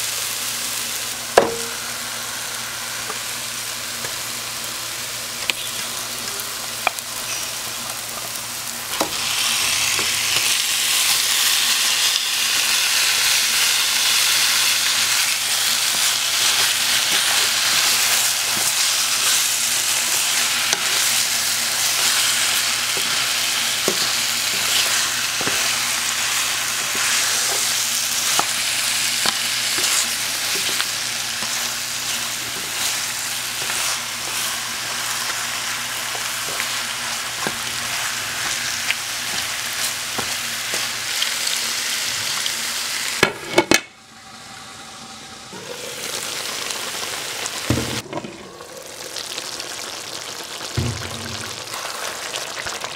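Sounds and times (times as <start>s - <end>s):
meat sizzling in hot oil: 0.0s - 43.2s, 45.6s - 52.9s.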